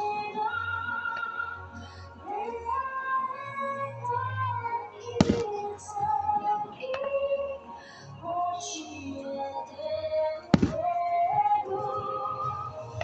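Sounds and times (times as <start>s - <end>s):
music with sung melody: 0.0s - 13.0s.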